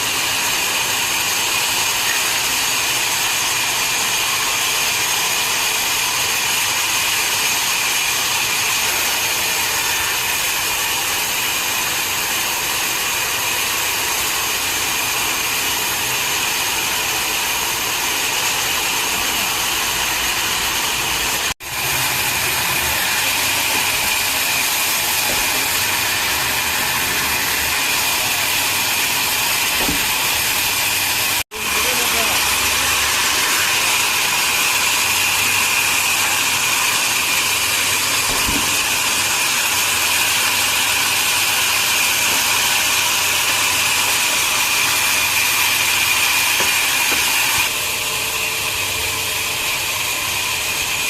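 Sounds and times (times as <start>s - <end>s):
wood-sawing machine whine: 0.0s - 51.0s.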